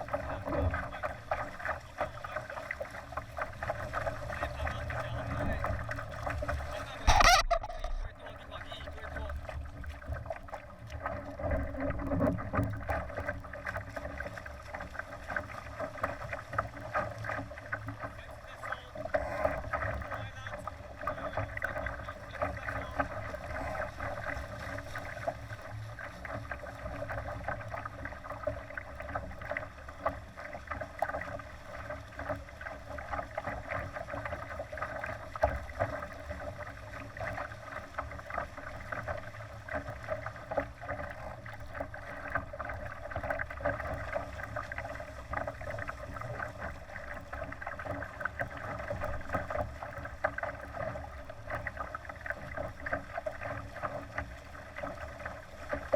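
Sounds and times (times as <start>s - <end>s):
water splashing along boat hull: 0.0s - 55.9s.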